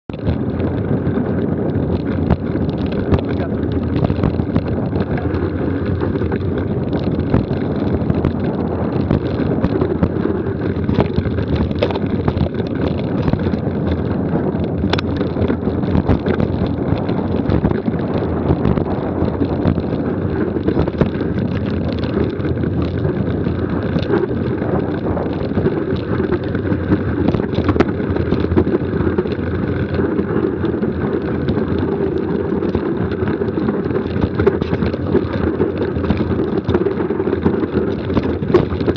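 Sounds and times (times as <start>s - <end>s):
bike rattling over rocks: 0.1s - 38.9s
wind buffeting microphone: 0.1s - 38.9s.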